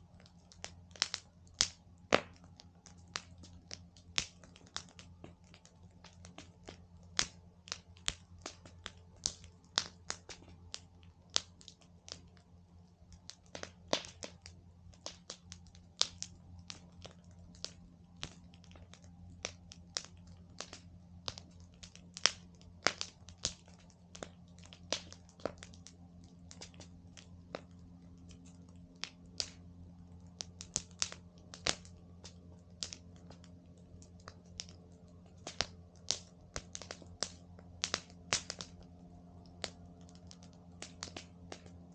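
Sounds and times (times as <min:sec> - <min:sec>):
campfire crackling: 0:00.0 - 0:41.9
faint low hum: 0:00.0 - 0:41.9.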